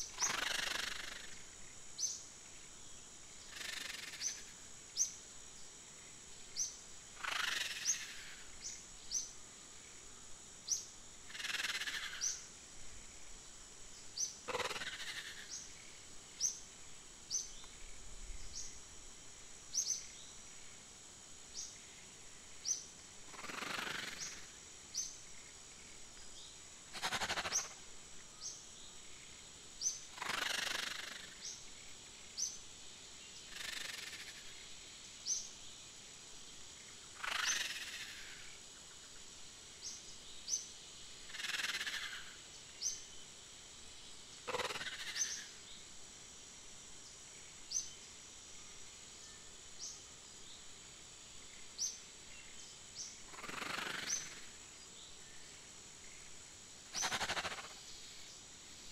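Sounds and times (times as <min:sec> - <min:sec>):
high insect drone: 0:00.0 - 0:58.9.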